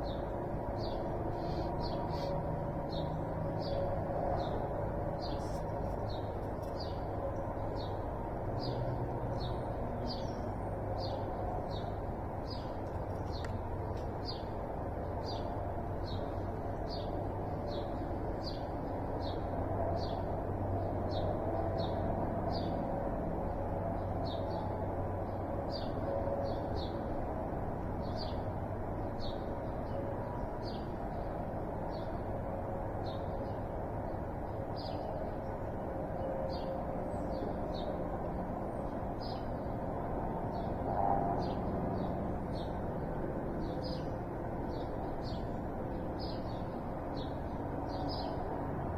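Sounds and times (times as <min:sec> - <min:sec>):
low background hum: 0:00.0 - 0:48.9.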